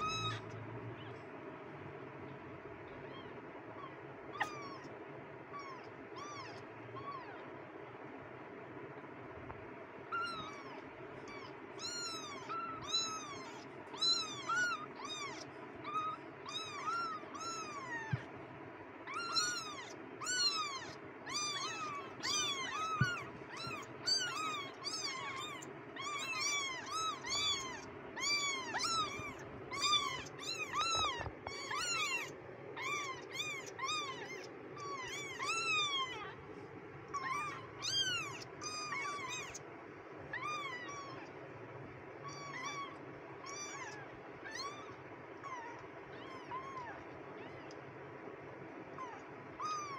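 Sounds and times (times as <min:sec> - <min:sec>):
kittens mewing: 0:00.0 - 0:01.3, 0:02.9 - 0:07.7, 0:10.0 - 0:18.4, 0:19.0 - 0:39.7, 0:40.3 - 0:41.4, 0:42.2 - 0:47.8, 0:48.9 - 0:49.9
faint steady hum: 0:00.0 - 0:49.9.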